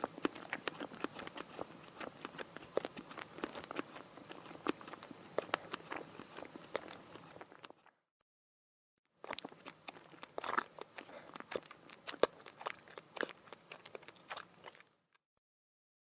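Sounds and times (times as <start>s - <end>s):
person chewing crunchy food: 0.0s - 8.0s, 9.2s - 15.1s.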